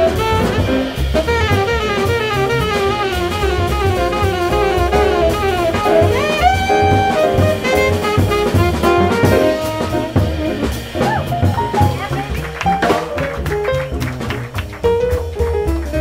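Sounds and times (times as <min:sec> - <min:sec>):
jazz combo playing swing: 0:00.0 - 0:16.0
piano: 0:00.0 - 0:16.0
walking upright bass: 0:00.0 - 0:16.0.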